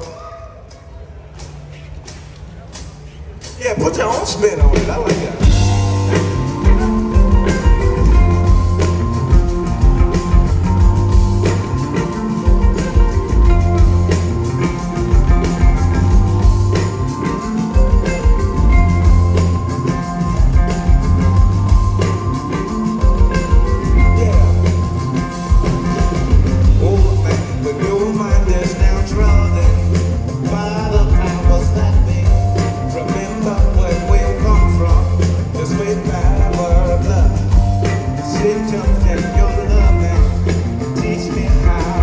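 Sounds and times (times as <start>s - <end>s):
drum kit: 0.0s - 42.0s
live rock band playing: 0.0s - 42.0s
heavy bass line: 3.6s - 42.0s.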